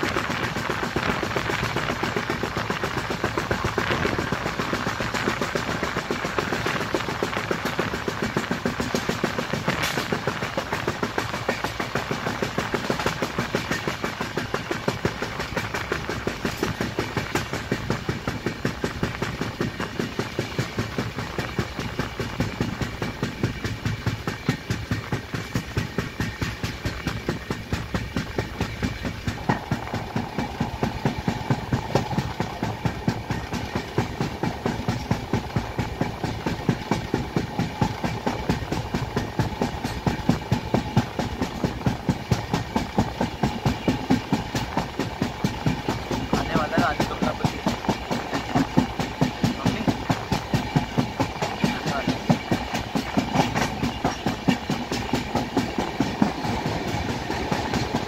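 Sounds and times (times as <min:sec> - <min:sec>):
train rumble: 0:00.0 - 0:58.0
train wheels knocking: 0:00.0 - 0:58.0.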